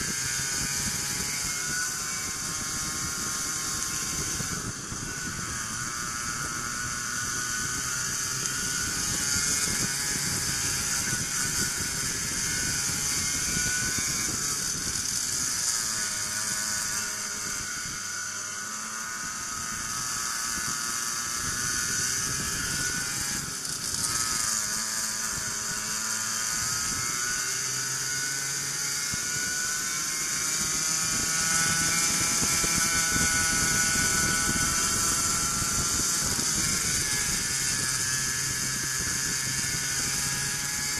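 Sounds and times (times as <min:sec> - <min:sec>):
racing kart engine: 0:00.0 - 0:40.9.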